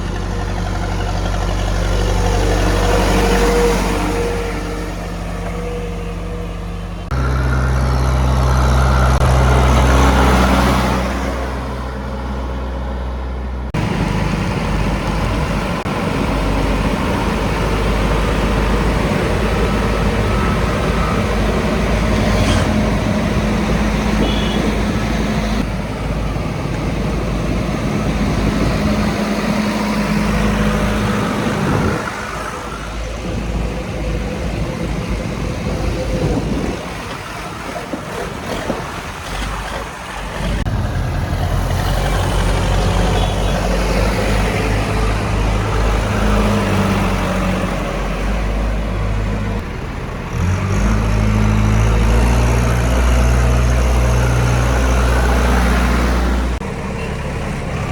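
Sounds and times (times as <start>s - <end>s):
heavy diesel engines running: 0.0s - 57.9s.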